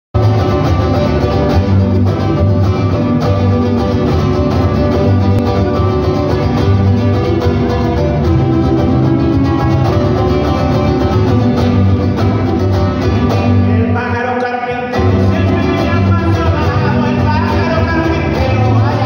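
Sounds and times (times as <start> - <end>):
electric bass line: 0.2 - 14.2, 15.0 - 19.0
acoustic guitar playing: 0.2 - 19.0.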